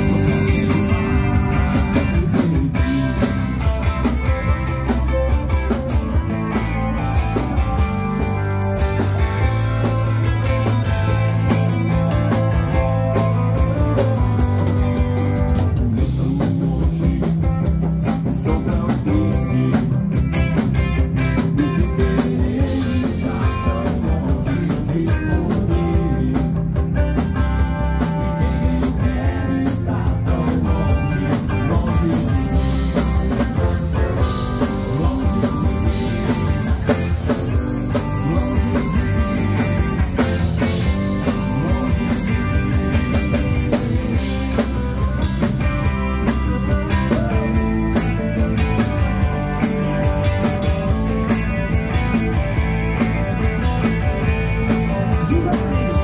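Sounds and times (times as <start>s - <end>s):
distorted electric guitars: 0.0s - 56.0s
drum kit: 0.0s - 56.0s
electric bass: 0.0s - 56.0s.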